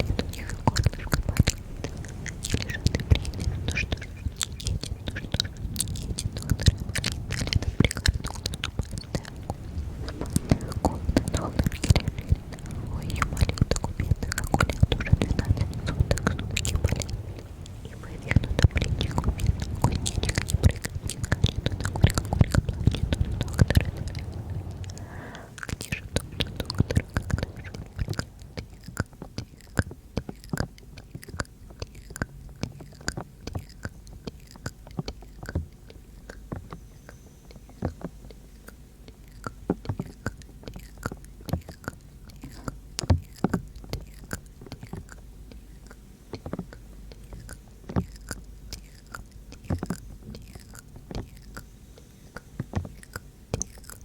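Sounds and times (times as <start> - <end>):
wet mouth clicks and smacks: 0.0 - 36.8, 37.5 - 54.0.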